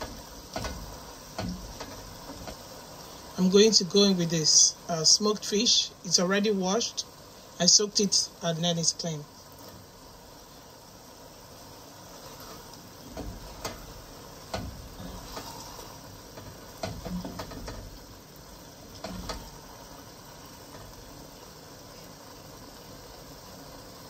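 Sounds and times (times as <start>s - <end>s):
sauce hissing in pot: 0.0s - 24.0s.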